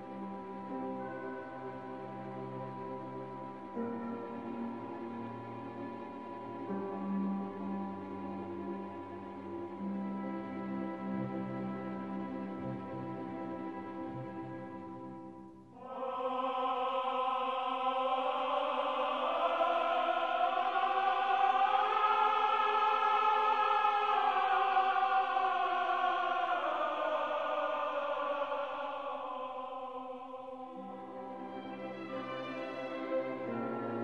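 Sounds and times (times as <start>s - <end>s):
wordless choir chord: 0.0s - 34.0s.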